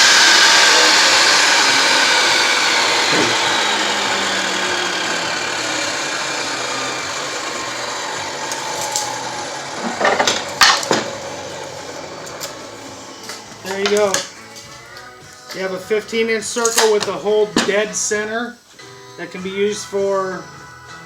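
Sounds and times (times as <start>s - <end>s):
table saw winding down: 0.0s - 18.4s.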